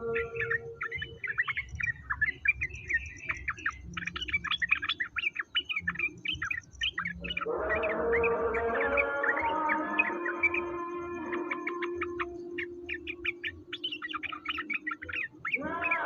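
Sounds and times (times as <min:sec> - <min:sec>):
songbird chirping and twittering: 0:00.0 - 0:16.0.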